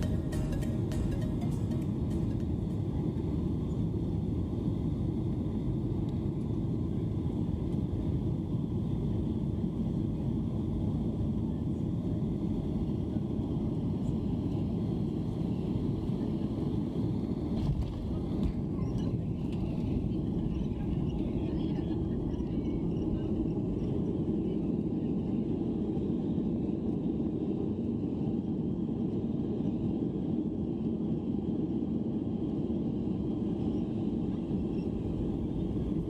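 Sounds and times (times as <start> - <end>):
jet engine rumble in cabin: 0.0 - 36.0.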